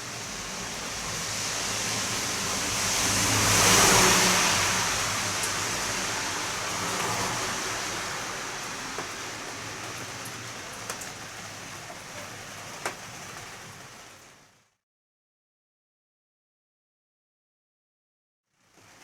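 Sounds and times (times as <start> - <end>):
rain falling: 0.0 - 14.8, 18.5 - 19.0.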